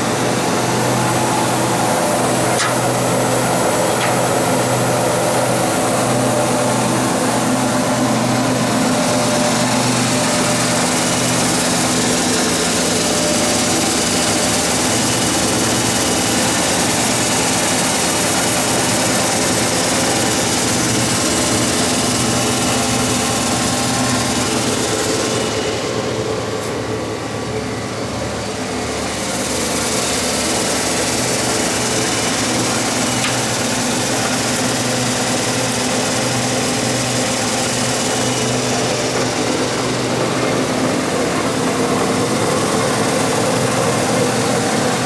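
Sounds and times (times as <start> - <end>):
grinder machine hum: 0.0 - 45.0.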